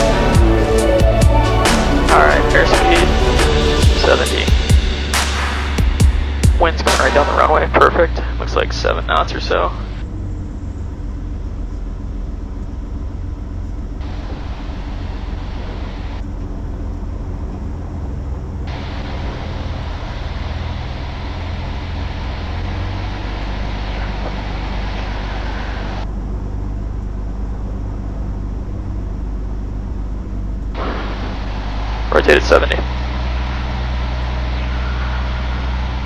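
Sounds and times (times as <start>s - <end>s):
propeller engine drone: 0.0s - 36.0s.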